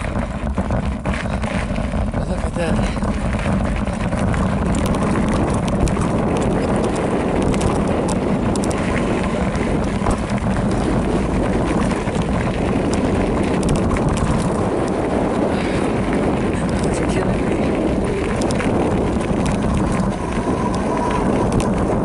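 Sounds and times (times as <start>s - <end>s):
gravel clicks and clatters: 0.0s - 22.0s
mountain bike rolling on dirt trail: 0.0s - 22.0s
wind buffeting microphone: 0.0s - 22.0s.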